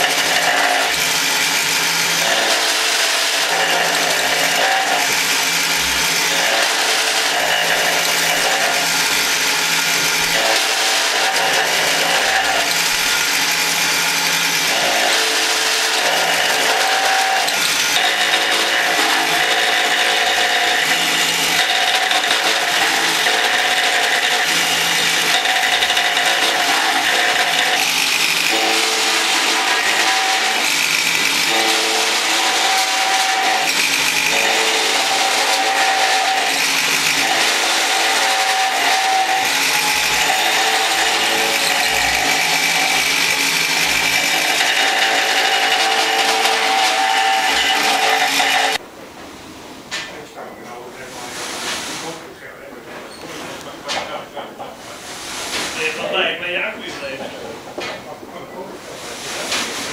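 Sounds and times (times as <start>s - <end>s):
mortising machine cutting wood: 0.0s - 48.8s, 53.9s - 57.8s, 58.8s - 59.9s.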